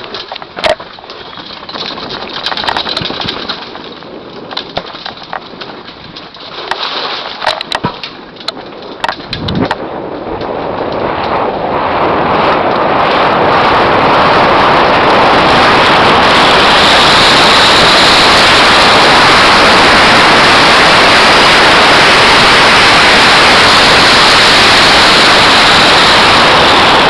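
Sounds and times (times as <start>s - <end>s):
bike rattling over rough ground: 0.0s - 27.0s
bike tires rolling on dirt: 0.0s - 27.0s.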